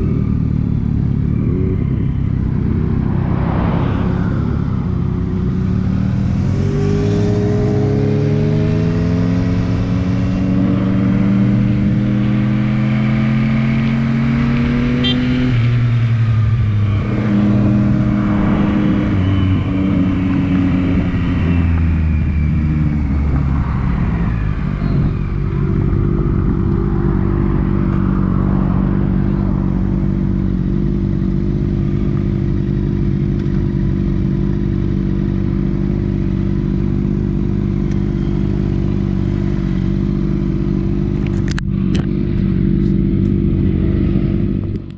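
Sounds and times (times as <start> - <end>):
motorcycle engine: 0.0 - 44.9.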